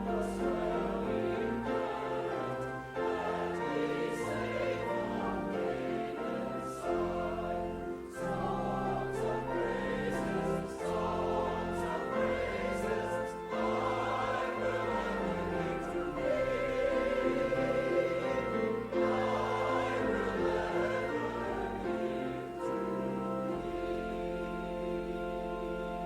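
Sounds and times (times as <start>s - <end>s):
choir singing: 0.0s - 26.0s
instrumental accompaniment: 0.0s - 26.0s.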